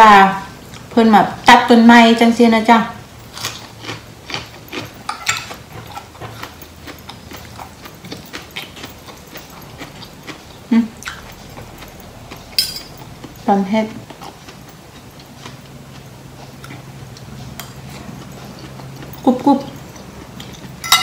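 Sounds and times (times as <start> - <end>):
close chewing crunches: 3.2 - 20.8.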